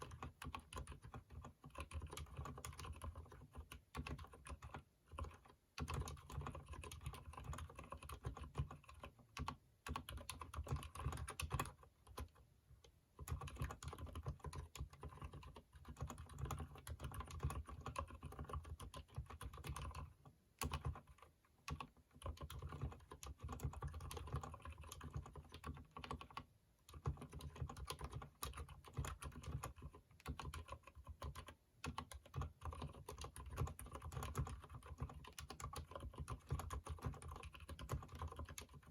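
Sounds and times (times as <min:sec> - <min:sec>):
rapid keyboard keystrokes: 0:00.0 - 0:38.9.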